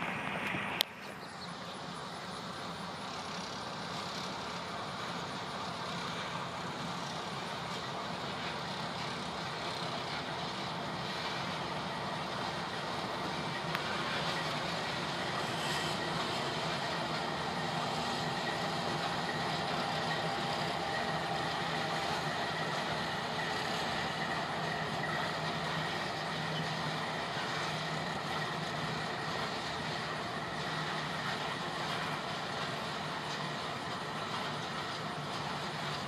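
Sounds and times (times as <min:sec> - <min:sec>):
diesel locomotive passing: 0:00.0 - 0:36.0
train wheels on rails: 0:00.0 - 0:36.0.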